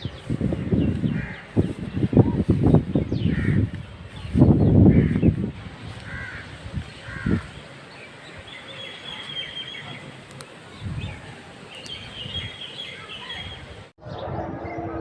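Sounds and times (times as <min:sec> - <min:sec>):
birds calling and chirping: 0:00.0 - 0:15.0
outdoor background noise: 0:00.0 - 0:15.0.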